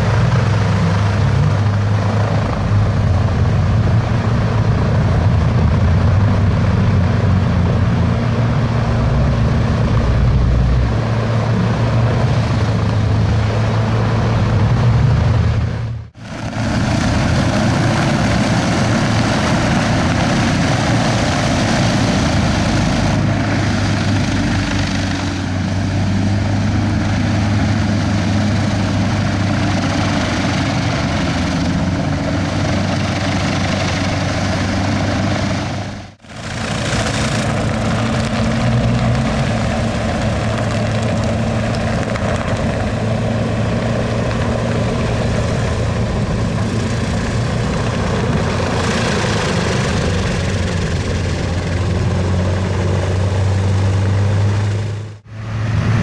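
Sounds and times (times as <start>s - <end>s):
hovercraft engine running: 0.0s - 56.0s.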